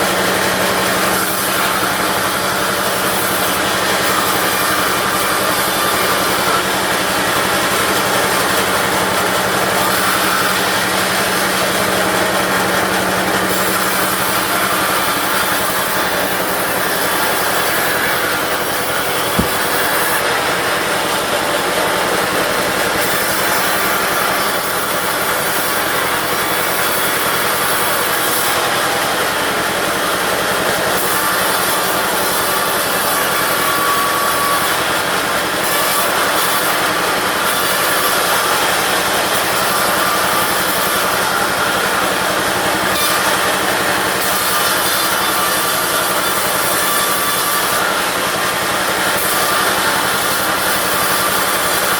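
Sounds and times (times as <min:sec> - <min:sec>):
band saw sawing wood: 0:00.0 - 0:51.9.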